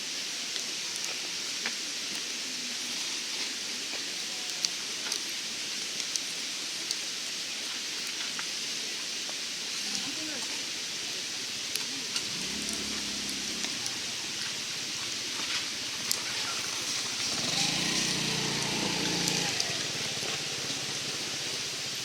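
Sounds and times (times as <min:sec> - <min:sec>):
fire hissing: 0:00.0 - 0:22.0
wood fire crackling: 0:00.2 - 0:22.0.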